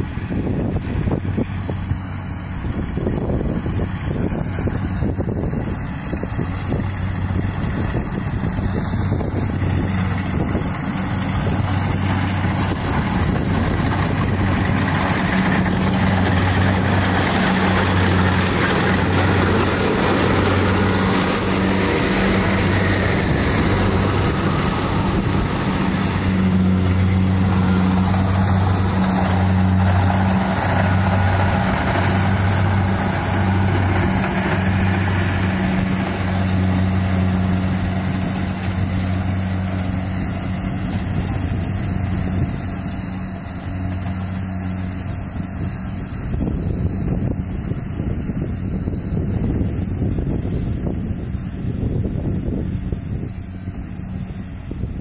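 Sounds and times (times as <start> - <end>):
broad rushing noise: 0.0 - 55.0
diesel engine running under load: 0.0 - 55.0.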